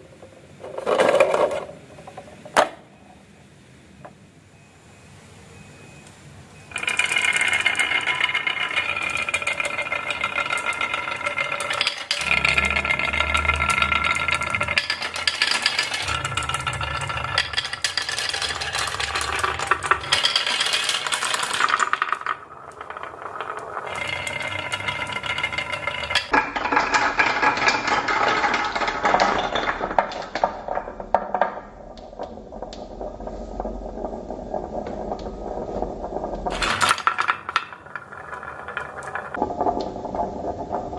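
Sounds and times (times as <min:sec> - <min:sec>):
marbles rattling down plastic tracks: 0:06.7 - 0:40.9.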